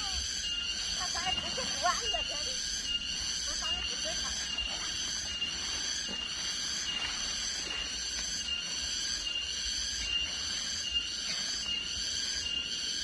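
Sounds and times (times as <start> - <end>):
pulsing insect chorus: 0.0 - 13.0.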